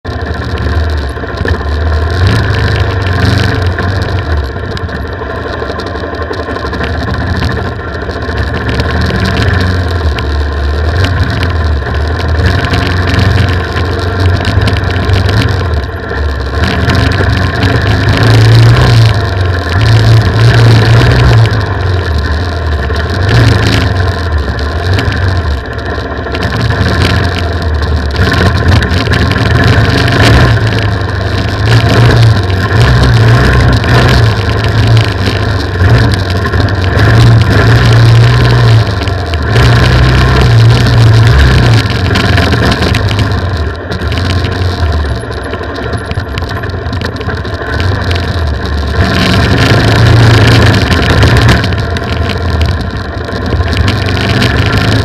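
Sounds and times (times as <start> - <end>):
motorcycle engine revving: 0.0 - 55.0
rough wind noise: 0.0 - 55.0
trail noise: 0.0 - 55.0.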